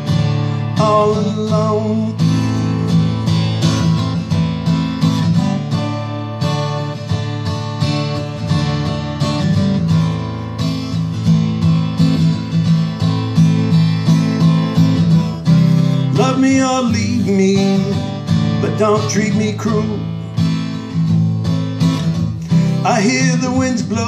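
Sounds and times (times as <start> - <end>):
acoustic guitar strummed: 0.0 - 24.0.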